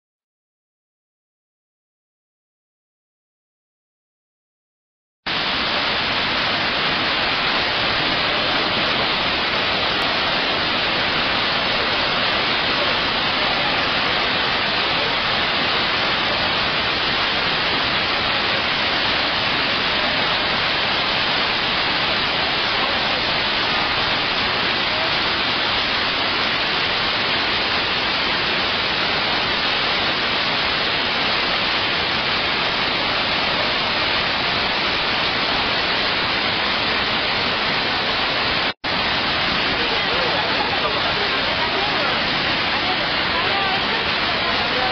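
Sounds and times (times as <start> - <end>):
waterfall rushing: 5.3 - 44.9.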